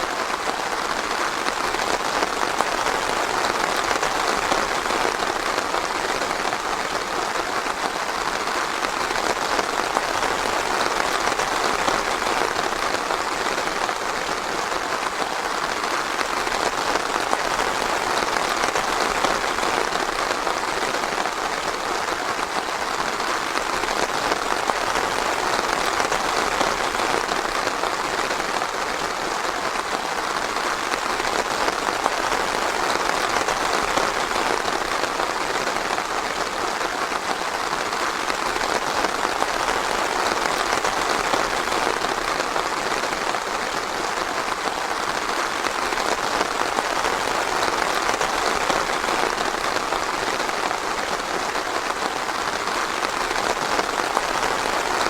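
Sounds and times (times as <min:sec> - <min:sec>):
steady rain in forest: 0:00.0 - 0:55.0.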